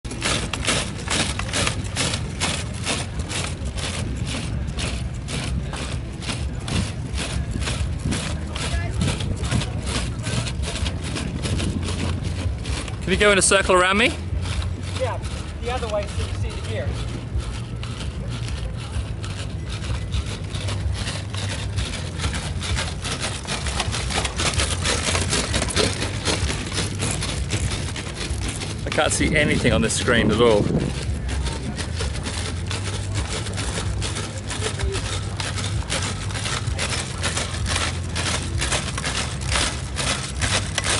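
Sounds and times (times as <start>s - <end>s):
bicycles rumbling on dry ground: 0.0s - 40.9s
rhythmic scraping: 0.0s - 40.9s.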